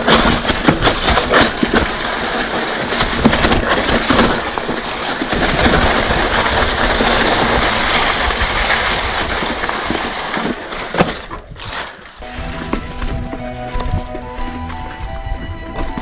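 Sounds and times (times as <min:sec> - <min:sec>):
bike knocks and rattles: 0:00.0 - 0:14.0
bike tyre noise: 0:00.0 - 0:16.0.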